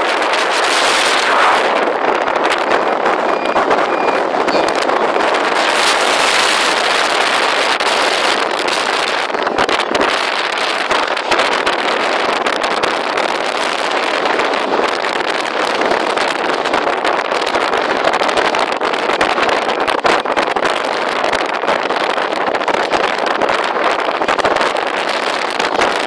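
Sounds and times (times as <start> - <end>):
heavy rain pouring: 0.0 - 26.0
wind buffeting microphone: 0.0 - 26.0.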